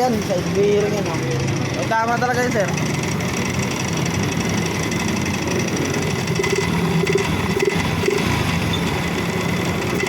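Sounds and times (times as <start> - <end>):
fast engine rattle: 0.0 - 10.0
scooter engine running: 0.0 - 10.0.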